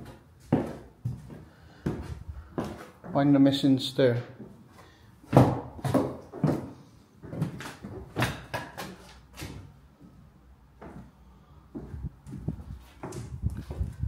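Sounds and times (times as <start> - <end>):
footsteps on stairs: 0.0 - 3.3, 5.2 - 14.0.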